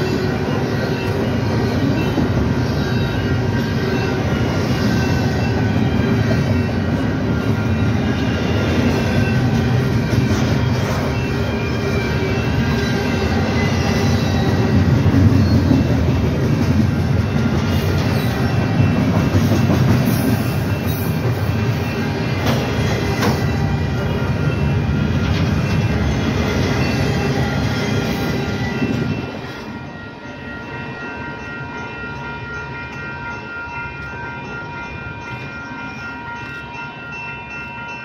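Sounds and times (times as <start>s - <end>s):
steel wheels rolling on rail: 0.0s - 38.0s.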